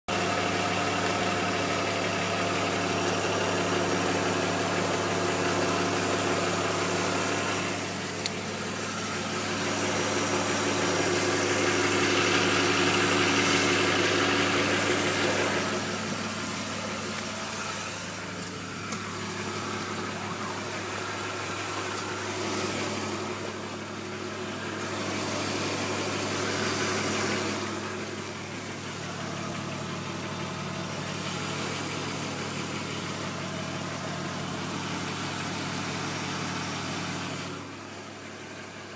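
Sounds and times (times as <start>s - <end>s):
car engine idling: 0.1s - 38.9s
engine knock rattle: 0.1s - 38.9s.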